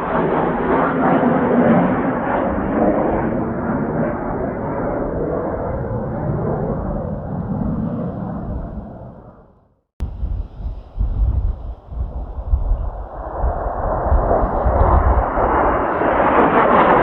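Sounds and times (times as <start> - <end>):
jet aircraft roar flying past: 0.0 - 17.0.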